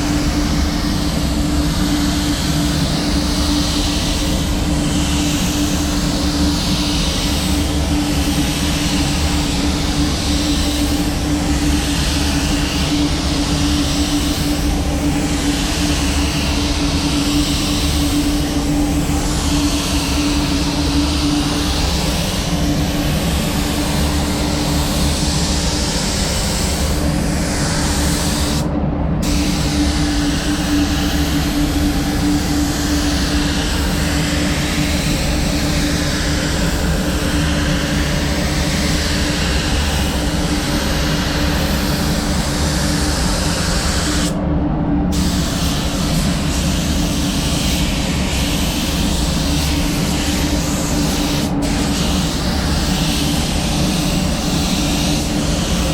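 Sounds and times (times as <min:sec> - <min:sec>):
ventilation fans droning: 0:00.0 - 0:55.9.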